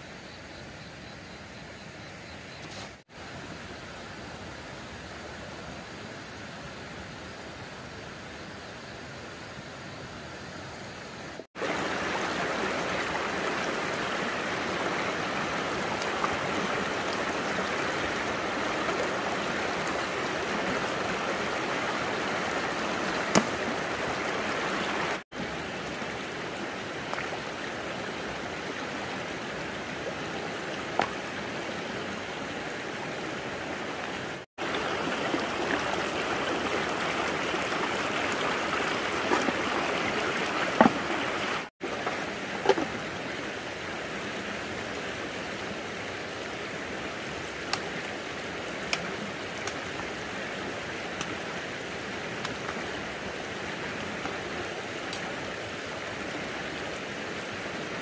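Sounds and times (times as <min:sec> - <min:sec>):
running water rushing: 0:11.1 - 0:58.0.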